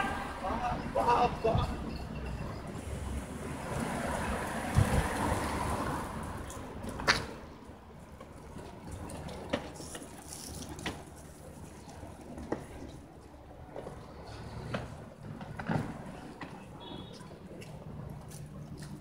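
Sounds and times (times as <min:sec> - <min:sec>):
passing traffic: 0:00.0 - 0:19.0.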